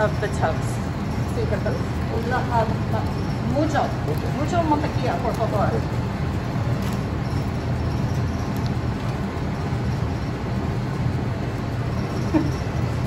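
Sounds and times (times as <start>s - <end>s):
kitchen machinery rumble: 0.0s - 13.0s.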